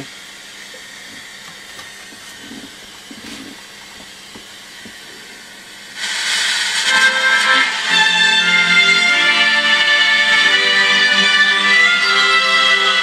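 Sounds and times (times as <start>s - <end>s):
radio loudspeaker hiss: 0.0s - 13.0s.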